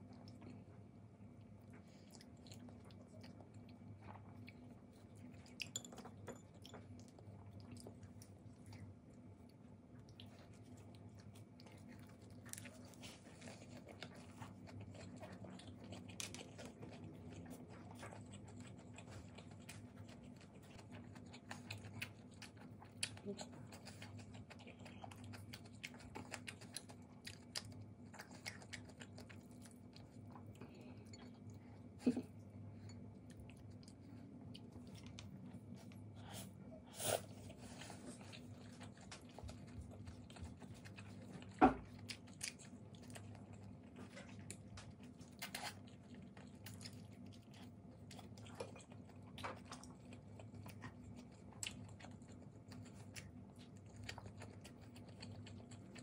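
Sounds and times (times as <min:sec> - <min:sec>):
low steady hum: 0:00.0 - 0:56.0
person chewing food: 0:00.0 - 0:56.0.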